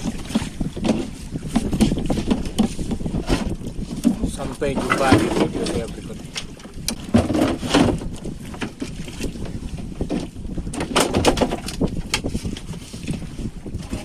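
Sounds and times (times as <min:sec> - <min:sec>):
low boat rumble: 0:00.0 - 0:14.0
wind buffeting microphone: 0:00.0 - 0:14.0.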